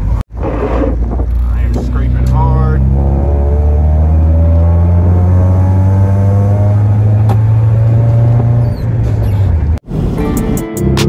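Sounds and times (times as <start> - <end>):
car engine from inside cabin: 0.1 - 9.8.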